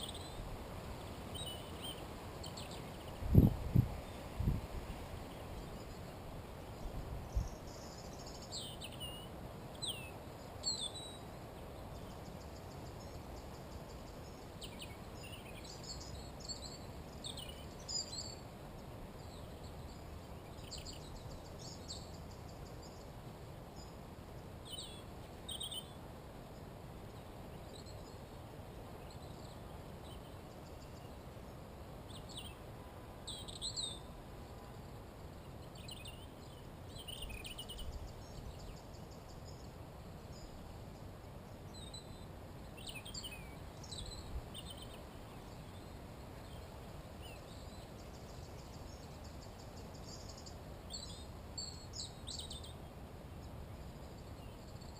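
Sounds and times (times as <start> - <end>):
low background hiss and rumble: 0.0 - 54.9
songbirds chirping: 0.0 - 54.9.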